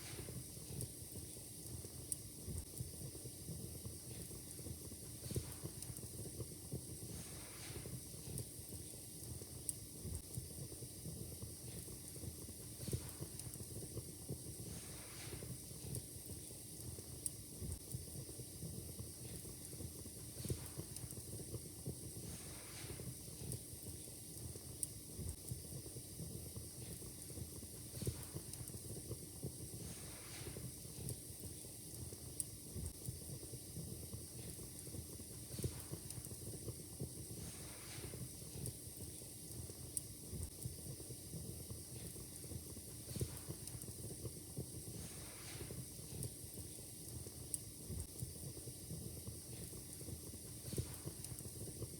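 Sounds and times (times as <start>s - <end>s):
low fire hiss: 0.0s - 51.9s
wood fire crackling: 0.0s - 51.9s
fire pops and snaps: 3.9s - 51.9s.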